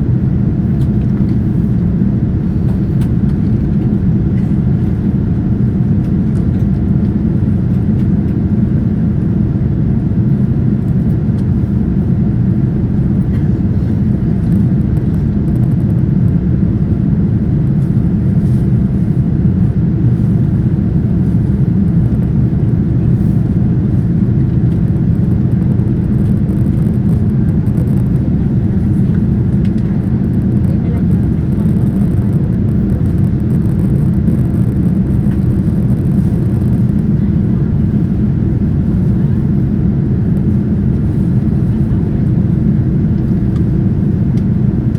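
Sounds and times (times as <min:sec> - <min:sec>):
airliner cabin drone: 0:00.0 - 0:44.9.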